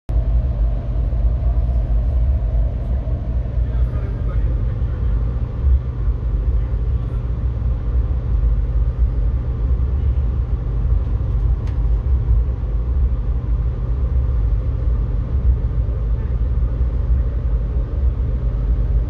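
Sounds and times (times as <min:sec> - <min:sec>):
moving train rumble: 0:00.1 - 0:19.0.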